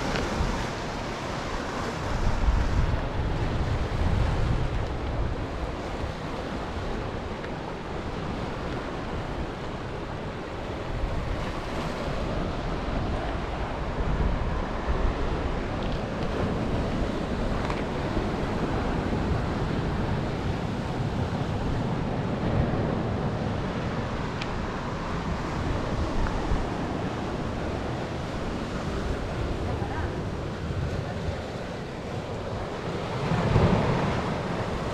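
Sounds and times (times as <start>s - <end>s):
waves breaking on rocks: 0.0s - 34.9s
wind buffeting microphone: 0.0s - 34.9s.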